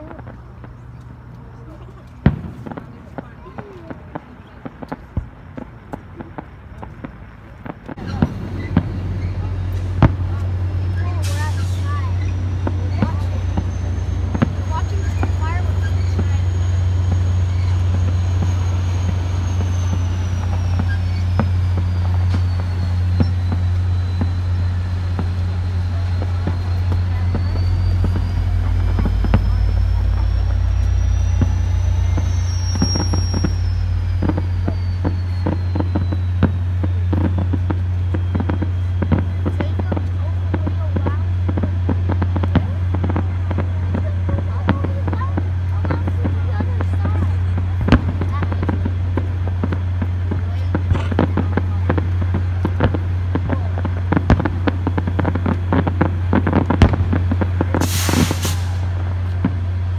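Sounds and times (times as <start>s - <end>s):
distant fireworks popping and banging: 0.0s - 59.9s
low rumble: 0.0s - 59.9s
low hum: 7.9s - 57.7s.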